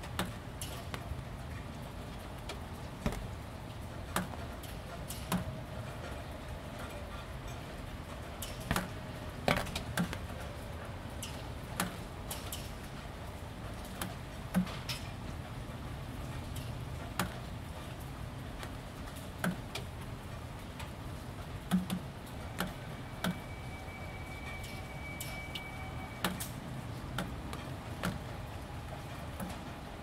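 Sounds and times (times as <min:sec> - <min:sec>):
drips ticking on corrugated roofing: 0:00.0 - 0:30.0
rain hiss: 0:00.0 - 0:30.0.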